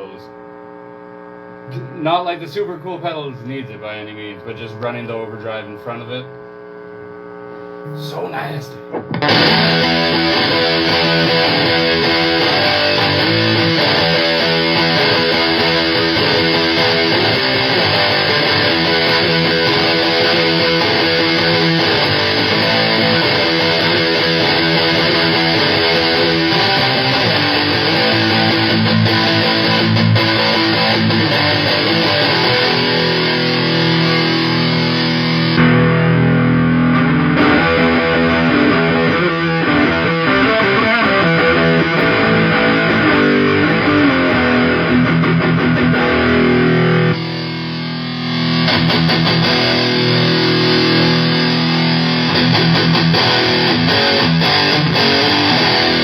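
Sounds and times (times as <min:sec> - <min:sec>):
distorted electric guitar riffing: 0:00.0 - 0:56.0.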